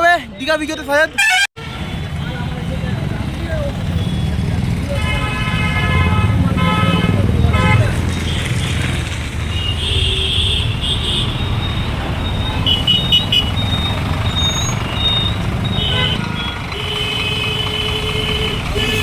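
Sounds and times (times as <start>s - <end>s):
vehicle horns: 1.1s - 2.6s, 3.8s - 19.0s
rumble of idling engines: 1.8s - 19.0s.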